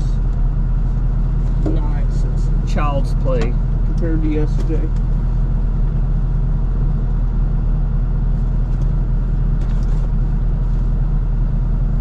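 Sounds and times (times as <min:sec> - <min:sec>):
engine idling low rumble: 0:00.0 - 0:12.0.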